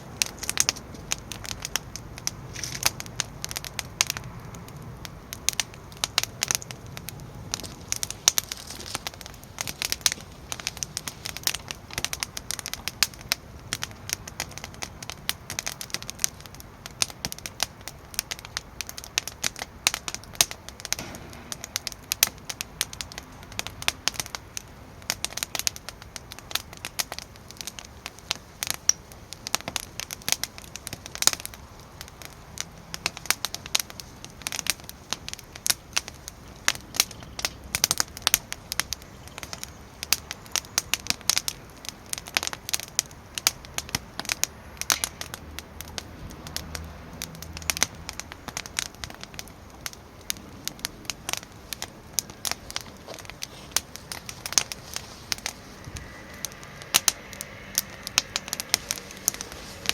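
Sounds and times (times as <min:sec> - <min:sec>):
firewood crackling and snapping: 0:00.0 - 0:59.9.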